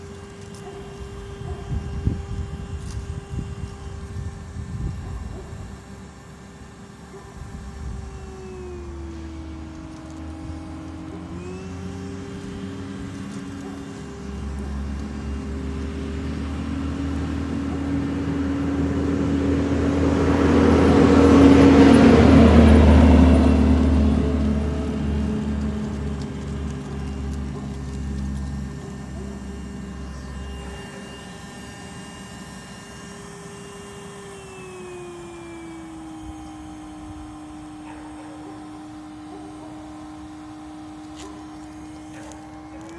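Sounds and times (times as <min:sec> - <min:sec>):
second motor tone: 0:00.0 - 0:42.9
vacuum motor humming: 0:00.0 - 0:42.9.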